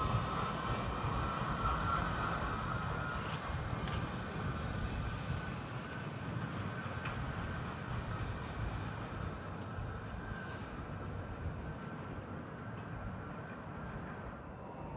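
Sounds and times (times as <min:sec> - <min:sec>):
subway train rumbling: 0:00.0 - 0:14.9.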